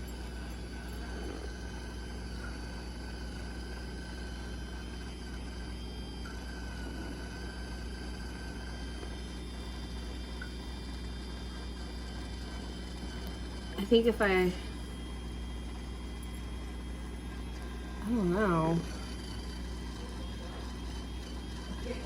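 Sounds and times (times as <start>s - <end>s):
small motor whirring: 0.0s - 22.0s.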